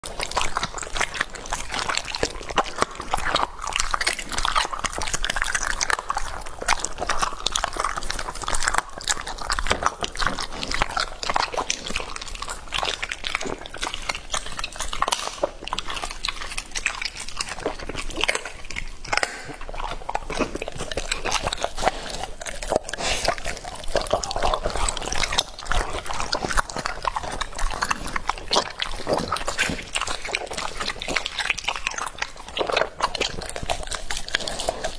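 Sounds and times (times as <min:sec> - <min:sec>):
dog chewing raw meat: 0:00.0 - 0:34.9.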